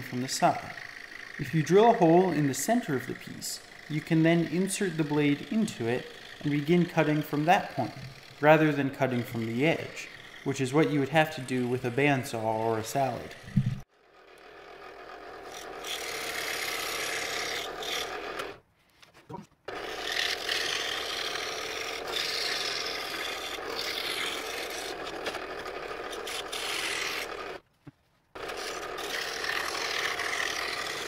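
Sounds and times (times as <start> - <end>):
scroll saw cutting wood: 0.0 - 27.6, 28.3 - 31.0.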